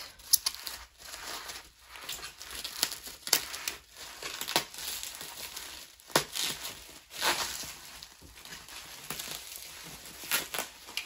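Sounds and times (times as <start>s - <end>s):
bubble wrap crackles: 0.0s - 11.0s
bubble wrap crinkling: 0.0s - 11.0s.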